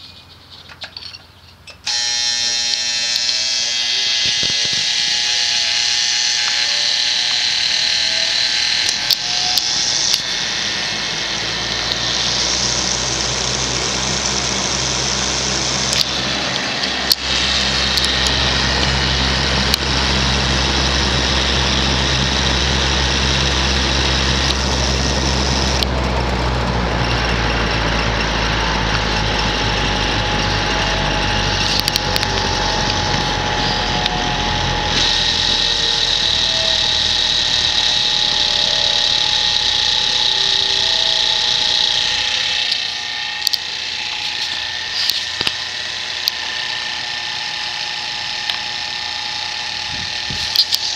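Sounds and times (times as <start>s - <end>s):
box fan running: 1.8s - 50.9s.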